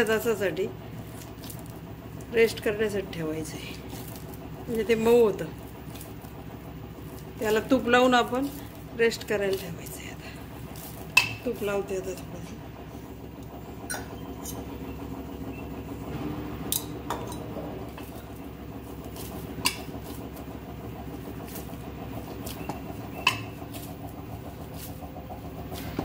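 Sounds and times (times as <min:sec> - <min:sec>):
dough kneaded on steel plate: 0:00.0 - 0:26.0
steady motor hum: 0:00.0 - 0:26.0.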